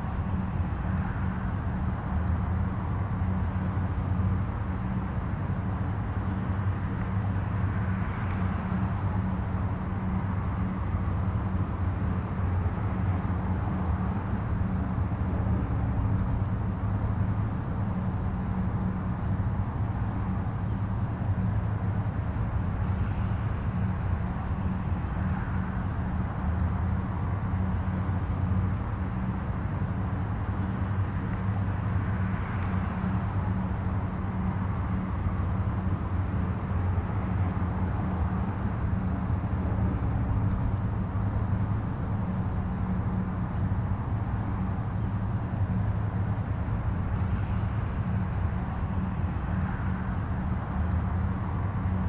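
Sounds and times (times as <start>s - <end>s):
distant highway traffic: 0.0s - 52.0s.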